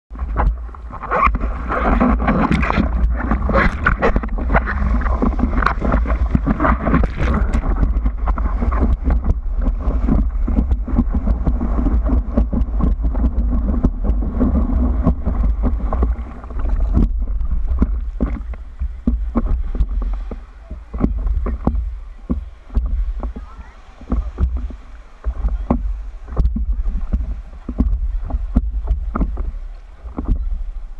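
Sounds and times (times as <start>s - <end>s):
low rumble of waves: 0.1s - 30.9s
water rushing and splashing: 0.1s - 30.9s.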